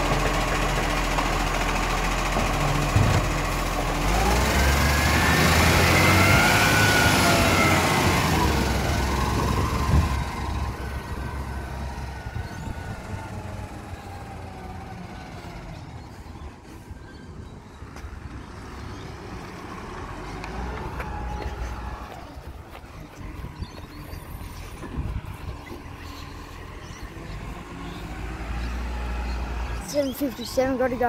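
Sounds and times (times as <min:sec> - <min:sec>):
garbage truck diesel engine: 0:00.0 - 0:31.0.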